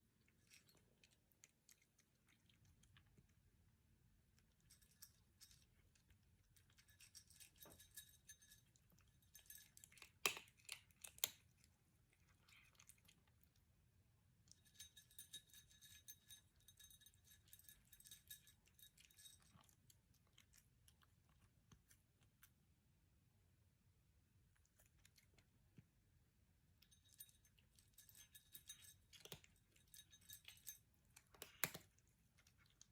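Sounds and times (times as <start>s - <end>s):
cat chewing dry kibble: 0.0s - 23.1s, 24.2s - 32.9s.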